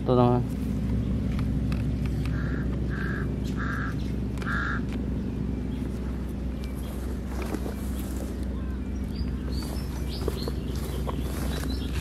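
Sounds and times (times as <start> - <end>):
low background hum: 0.0 - 12.0
bird calling: 2.0 - 12.0.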